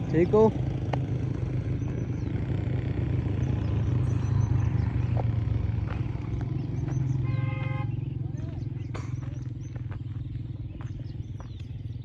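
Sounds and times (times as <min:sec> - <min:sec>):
low pulsing engine rumble: 0:00.0 - 0:12.0.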